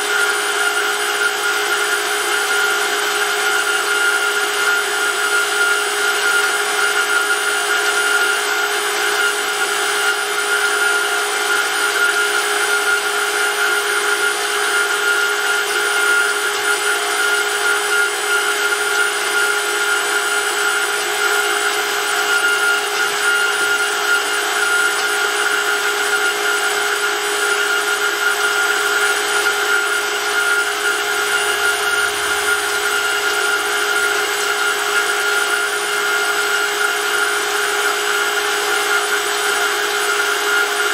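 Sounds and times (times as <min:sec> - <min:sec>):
electric pump motor whining: 0:00.0 - 0:40.9.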